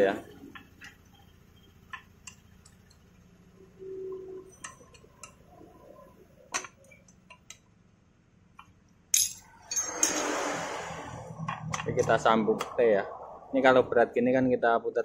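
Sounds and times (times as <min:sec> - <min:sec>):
faint hum: 0:00.0 - 0:08.4, 0:10.5 - 0:15.0.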